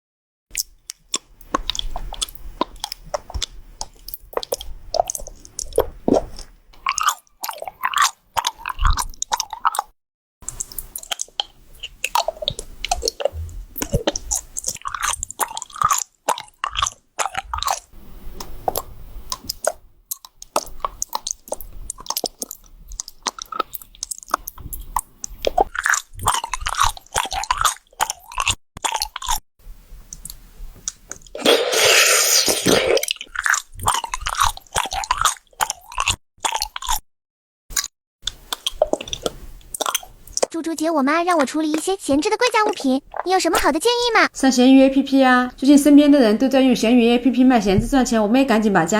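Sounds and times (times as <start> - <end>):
chewing crunchy candy: 0.5 - 29.4, 30.1 - 37.1, 37.7 - 40.6, 41.2 - 44.2
wet squishing: 0.5 - 29.4, 30.1 - 37.0, 37.7 - 44.3.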